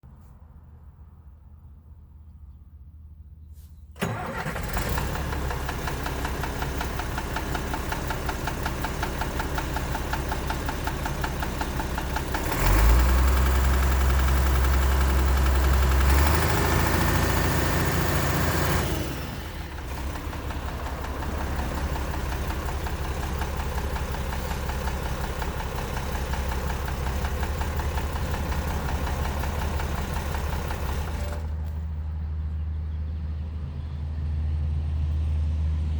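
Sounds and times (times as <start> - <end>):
truck engine idling: 4.0 - 35.0.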